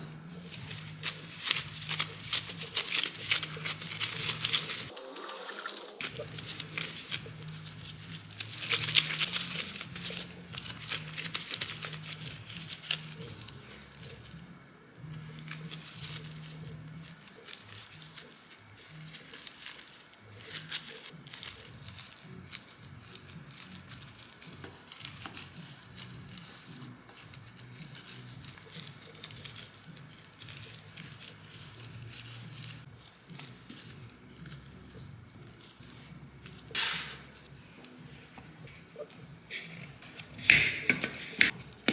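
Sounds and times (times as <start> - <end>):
light scrapes taps and rustles: 5.9 - 41.9.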